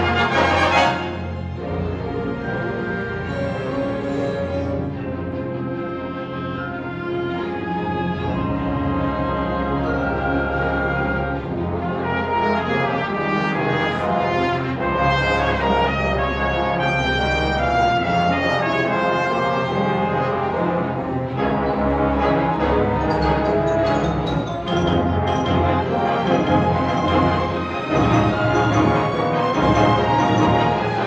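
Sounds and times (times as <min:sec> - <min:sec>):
orchestra playing classical piece: 0:00.0 - 0:31.0.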